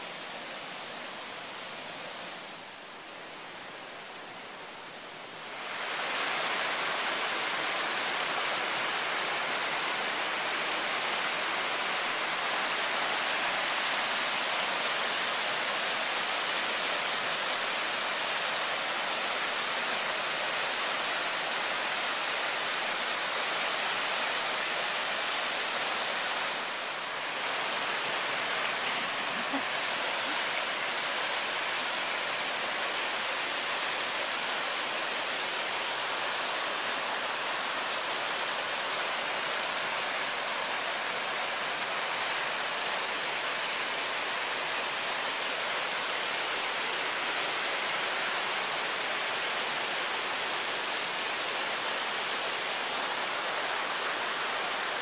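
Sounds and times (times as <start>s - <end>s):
water rushing over rocks: 4.8s - 55.0s.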